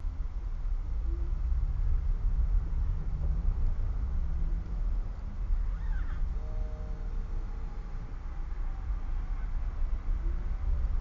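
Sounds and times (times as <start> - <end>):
car rumble from inside cabin: 0.0 - 11.0.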